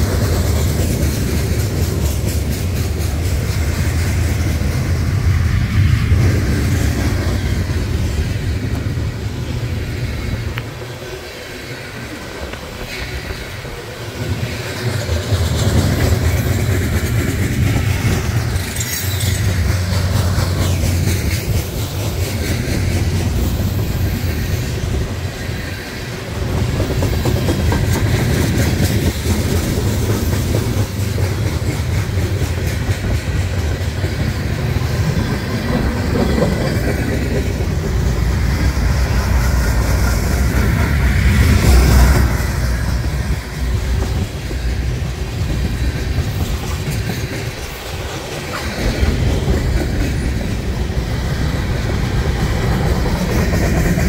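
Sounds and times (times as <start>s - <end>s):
freight train wheels rumbling: 0.0s - 54.0s
wheels clacking over rail joints: 0.0s - 54.0s.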